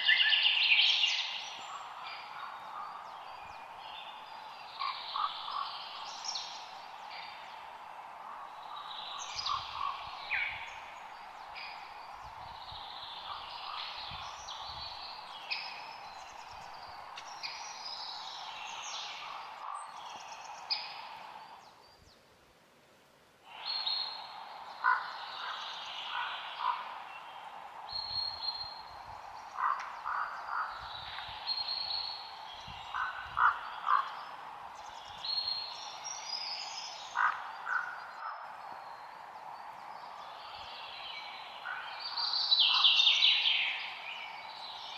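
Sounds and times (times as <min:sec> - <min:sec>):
birds chirping and calling: 0:00.0 - 0:21.7, 0:23.5 - 0:44.9.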